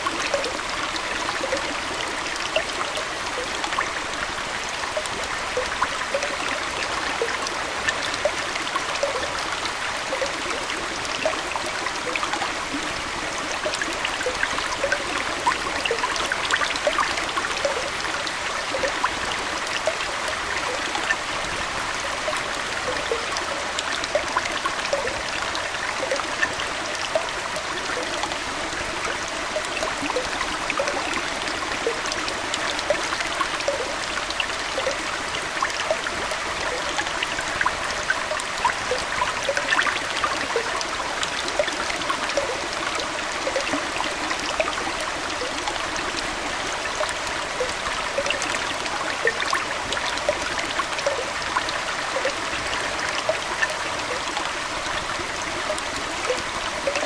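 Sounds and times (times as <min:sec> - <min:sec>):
aquarium water trickling: 0:00.0 - 0:57.0.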